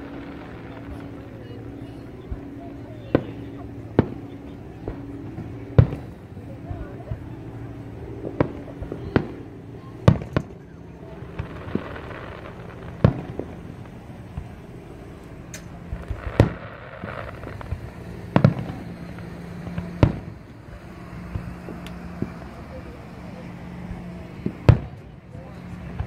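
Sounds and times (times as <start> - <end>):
firework bangs: 0.0 - 26.0
steady low hum: 0.0 - 26.0.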